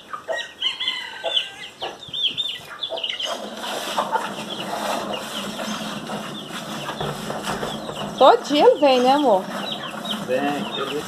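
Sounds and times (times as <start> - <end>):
chickens chirping: 0.0 - 11.0.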